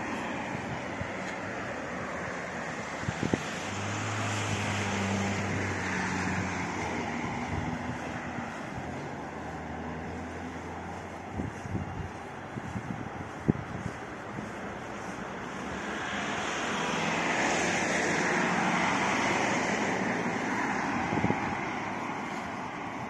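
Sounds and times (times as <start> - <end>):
distant traffic: 0.0 - 23.0
vehicle engine hum: 0.0 - 23.0
wind: 0.0 - 23.0.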